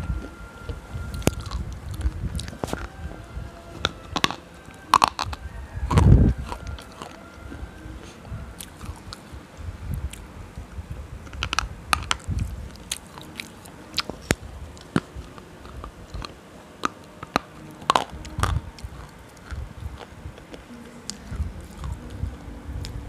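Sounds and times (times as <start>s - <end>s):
soft chewing: 0.0s - 23.0s.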